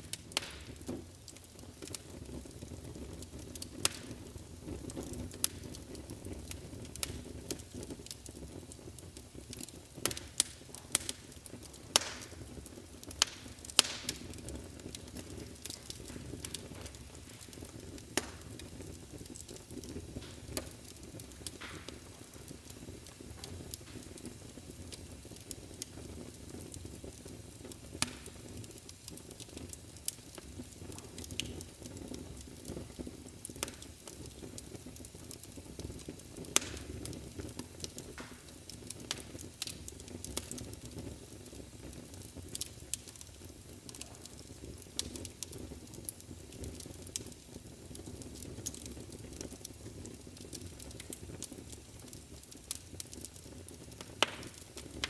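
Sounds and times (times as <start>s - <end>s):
burning logs crackling and popping: 0.0s - 55.0s
fire flames hissing and rumbling: 0.0s - 55.0s.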